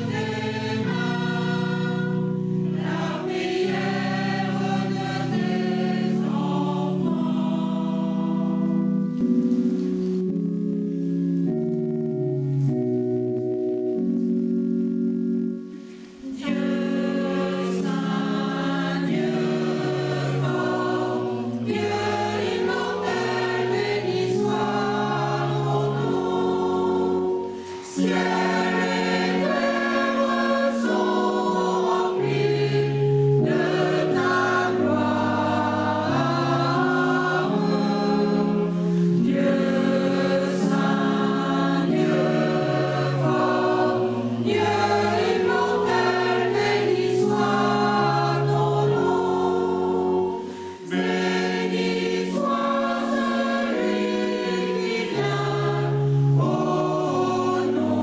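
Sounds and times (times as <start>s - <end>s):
choir singing a hymn: 0.0s - 10.5s, 15.8s - 58.0s
electronic keyboard accompaniment: 0.0s - 58.0s.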